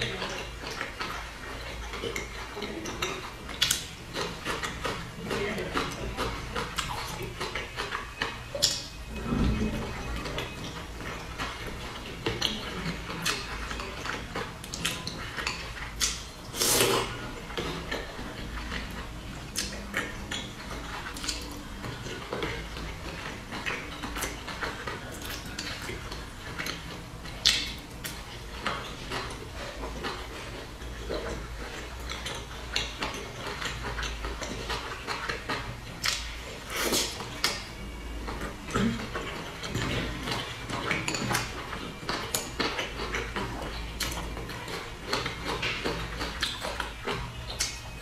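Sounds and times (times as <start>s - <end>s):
close chewing: 0.0s - 48.0s.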